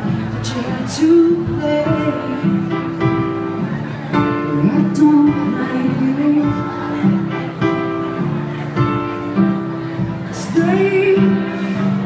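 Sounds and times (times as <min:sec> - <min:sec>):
live instrumental music: 0:00.0 - 0:12.0.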